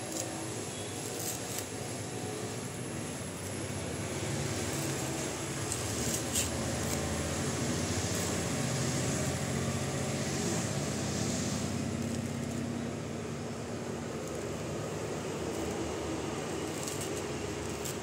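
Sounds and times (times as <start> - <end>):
coconut fibre crackling: 0.0 - 9.9, 11.5 - 18.0.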